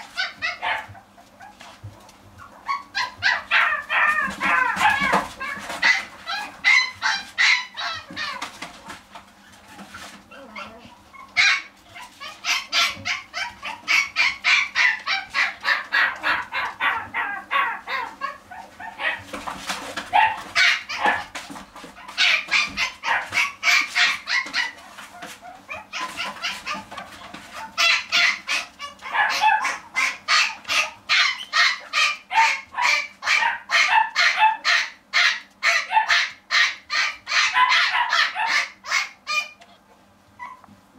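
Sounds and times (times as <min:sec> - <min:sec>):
small dog yapping: 0:00.0 - 0:01.6, 0:02.4 - 0:08.7, 0:10.3 - 0:19.4, 0:20.1 - 0:21.4, 0:22.0 - 0:39.6.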